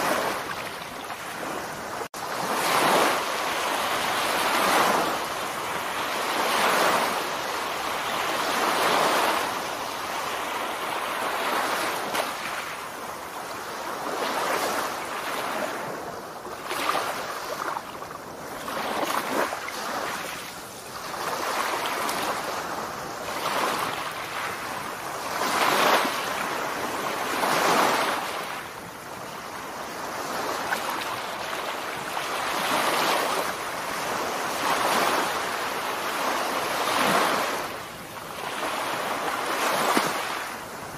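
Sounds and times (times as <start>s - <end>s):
small waves washing onto sand: 0.0s - 40.9s.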